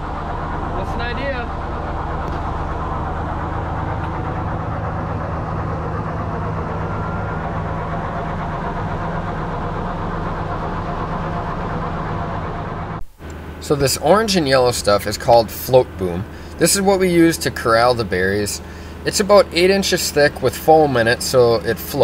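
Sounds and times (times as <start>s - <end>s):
heavy engine idling: 0.0s - 22.0s.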